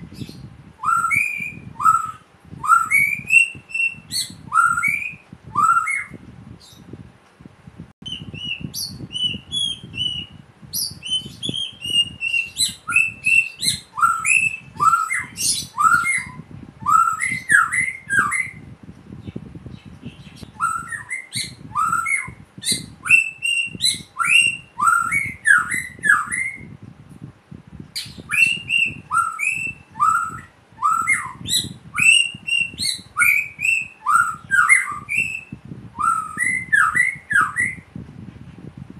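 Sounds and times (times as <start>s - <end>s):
bird singing whistled notes: 0.1s - 6.9s, 8.0s - 26.7s, 28.0s - 37.9s.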